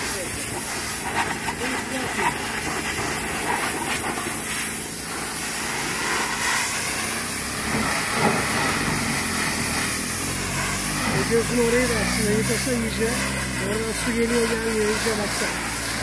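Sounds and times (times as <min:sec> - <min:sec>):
pressure washer spraying hull: 0:00.0 - 0:16.0.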